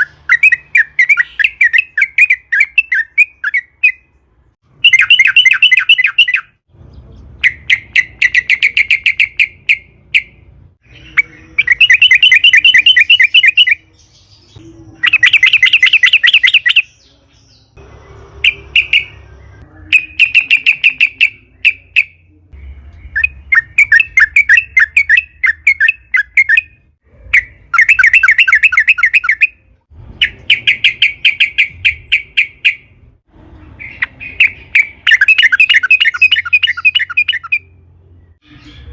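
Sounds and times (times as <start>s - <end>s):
bird chattering song: 0.0s - 4.2s, 4.8s - 29.6s, 30.2s - 33.0s, 33.8s - 38.9s.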